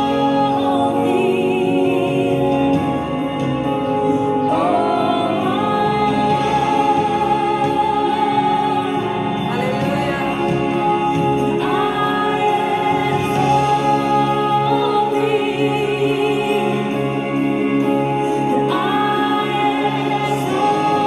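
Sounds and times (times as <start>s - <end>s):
person singing with vibrato: 0.0s - 21.0s
sustained chords: 0.0s - 21.0s.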